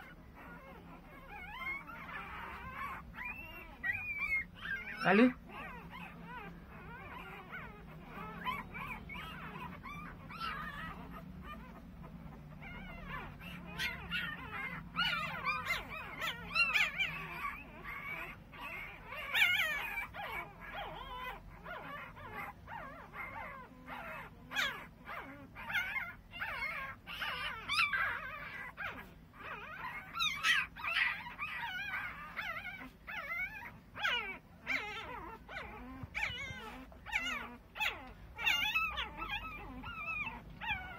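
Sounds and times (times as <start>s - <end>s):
puppies whimpering and squeaking: 0.0s - 40.9s.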